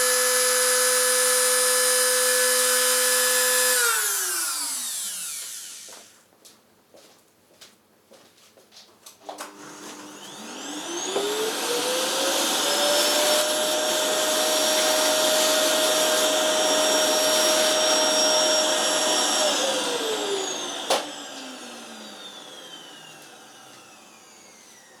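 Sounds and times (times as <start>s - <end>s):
vacuum cleaner motor whining: 0.0s - 6.2s, 9.3s - 25.0s
vacuum hose sucking dust: 0.0s - 6.2s, 9.5s - 25.0s.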